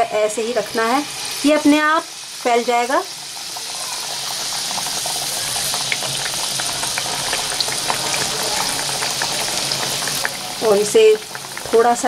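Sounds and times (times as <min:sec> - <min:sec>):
hot oil sizzling: 0:00.0 - 0:12.0
oil popping and crackling: 0:02.1 - 0:12.0.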